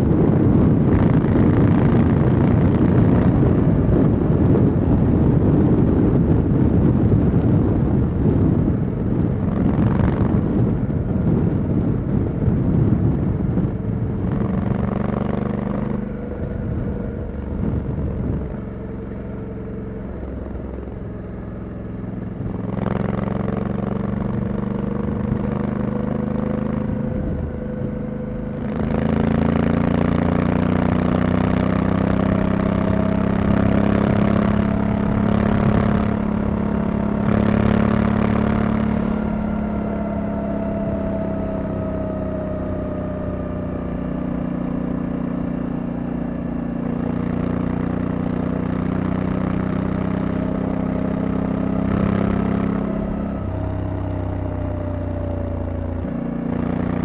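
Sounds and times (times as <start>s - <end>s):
heavy wind noise: 0.0s - 57.0s
motorcycle engine: 0.0s - 57.0s.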